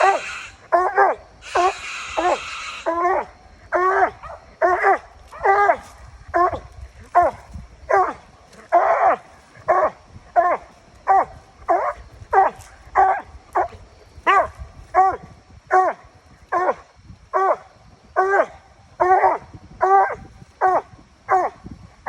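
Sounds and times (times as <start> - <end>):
dog barking: 0.0 - 16.8, 18.2 - 21.6.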